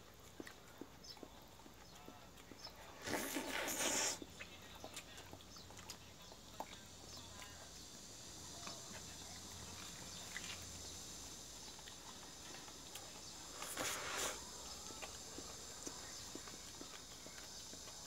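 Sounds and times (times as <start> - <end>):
dog licking: 0.0 - 18.0.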